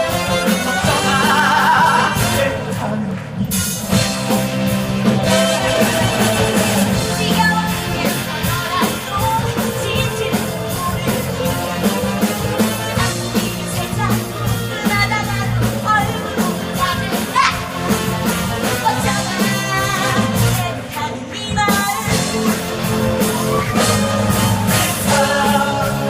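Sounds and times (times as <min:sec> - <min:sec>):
band music: 0:00.0 - 0:26.0
steady drum beat: 0:00.0 - 0:26.0.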